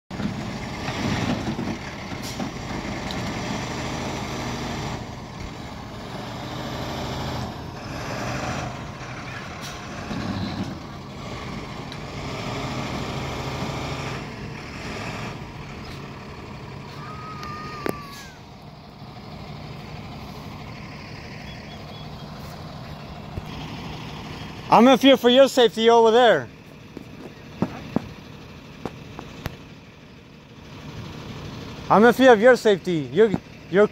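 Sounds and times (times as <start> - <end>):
truck engine running: 0.1 - 33.9.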